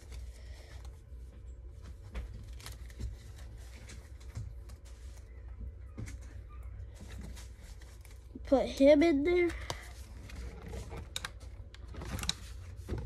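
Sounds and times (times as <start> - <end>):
cards rustling and tapping: 0.0 - 13.0
steady low hum: 0.0 - 13.0.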